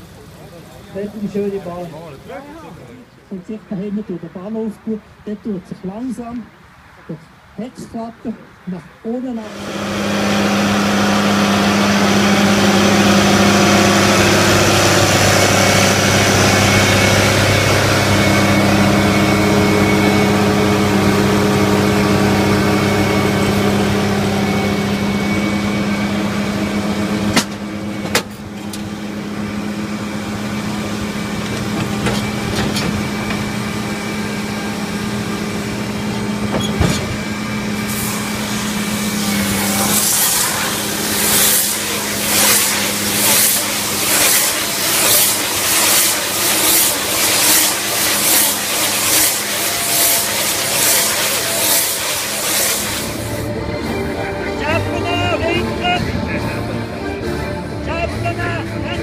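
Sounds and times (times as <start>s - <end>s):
tractor engine droning: 9.4s - 59.0s.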